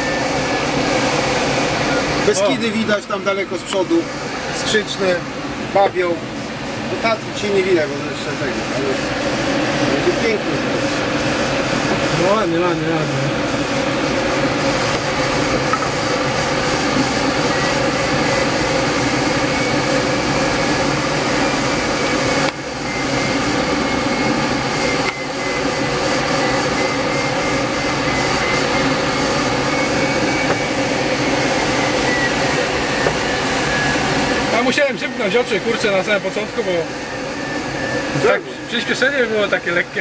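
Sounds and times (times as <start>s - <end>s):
propeller aircraft engine droning: 0.0s - 40.0s.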